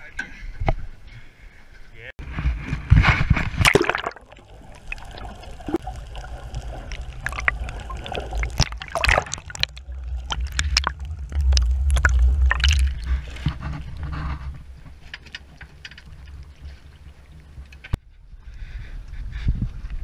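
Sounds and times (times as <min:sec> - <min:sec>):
sharp crackles and splashes: 0:02.2 - 0:20.0
muffled underwater water sloshing: 0:02.4 - 0:19.4.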